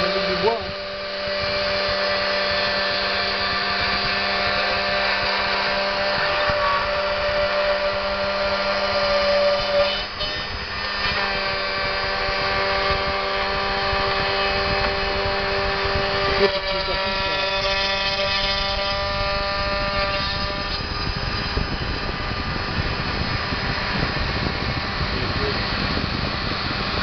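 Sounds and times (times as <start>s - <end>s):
router motor whine: 0.0s - 27.0s.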